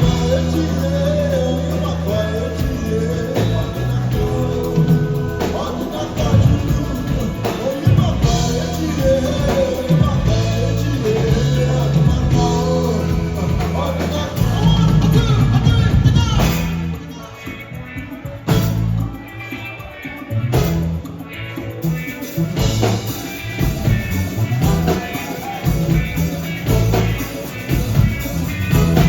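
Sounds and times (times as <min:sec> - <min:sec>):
person singing: 0:00.0 - 0:20.4, 0:22.5 - 0:29.0
live band playing highlife music: 0:00.0 - 0:29.0.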